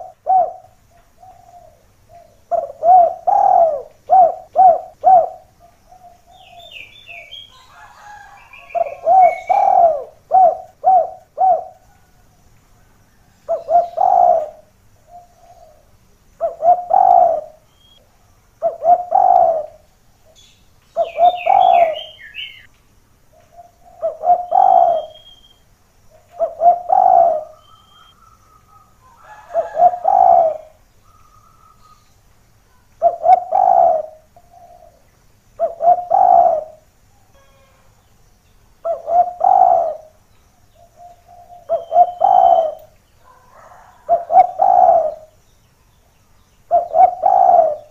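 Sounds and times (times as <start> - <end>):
doves cooing: 0.0 - 18.0, 18.6 - 19.9, 21.0 - 22.7, 23.4 - 25.4, 26.1 - 32.1, 32.7 - 37.9, 38.8 - 40.2, 40.8 - 45.4, 46.6 - 47.9
small birds chirping: 0.0 - 47.9.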